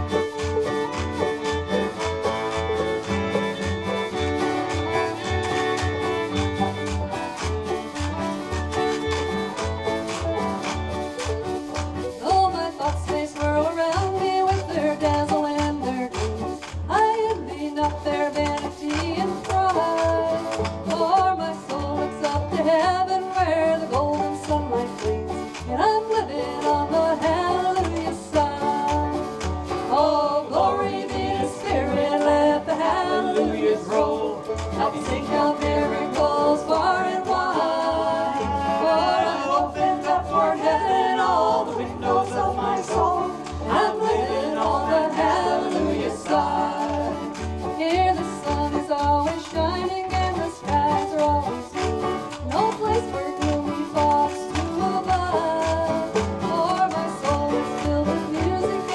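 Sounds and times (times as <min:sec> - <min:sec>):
acoustic country gospel band: 0:00.0 - 0:58.9.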